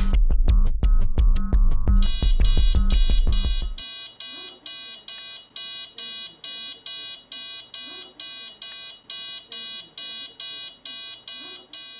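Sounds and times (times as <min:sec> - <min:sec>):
rapid high-pitched electronic beeps: 0:02.0 - 0:11.9.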